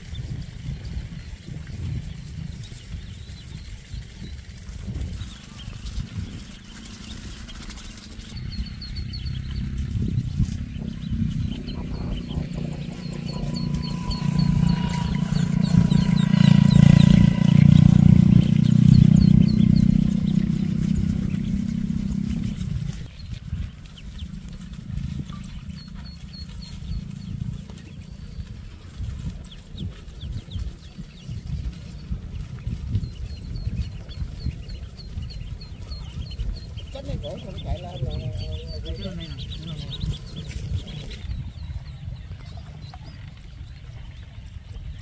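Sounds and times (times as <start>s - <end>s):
ducklings peeping: 0.0s - 45.0s
low rumble: 0.0s - 45.0s.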